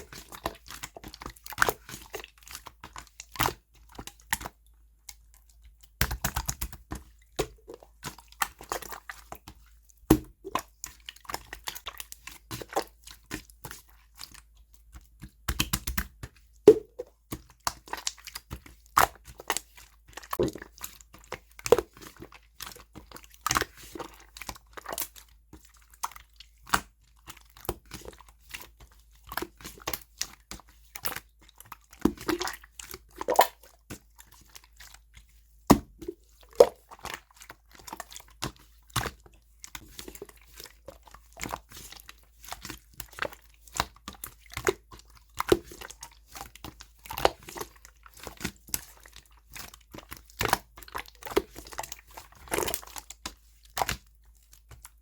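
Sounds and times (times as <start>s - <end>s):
slime squished by hand: 0.0s - 55.0s.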